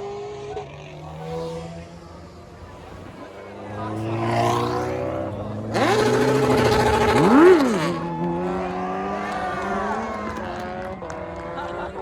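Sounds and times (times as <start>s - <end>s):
car engine idling and revving: 0.0s - 11.8s.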